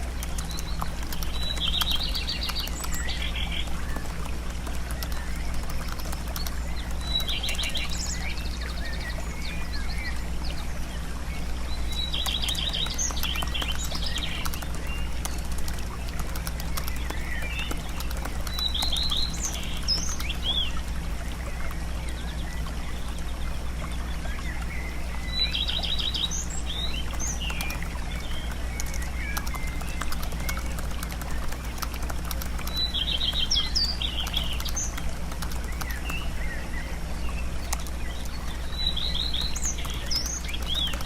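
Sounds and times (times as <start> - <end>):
birds singing and chirping: 0.0 - 41.0
faint clicks: 0.0 - 41.0
low hum: 0.0 - 41.0.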